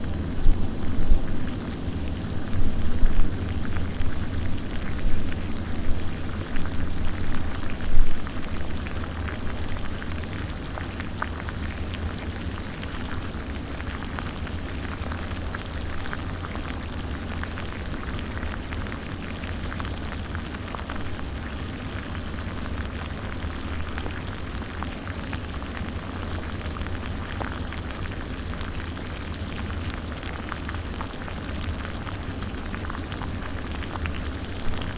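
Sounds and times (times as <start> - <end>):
water boiling and bubbling: 0.0 - 34.9.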